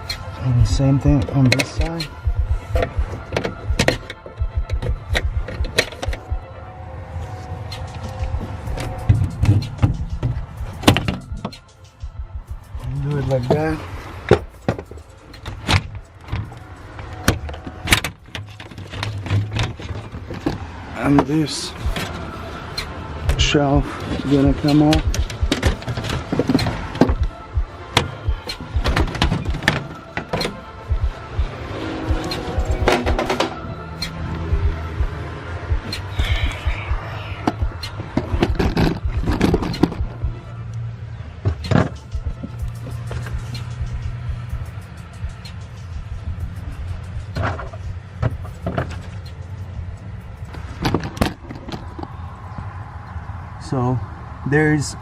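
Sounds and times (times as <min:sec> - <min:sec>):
low hum: 0:00.0 - 0:21.0, 0:21.7 - 0:55.0.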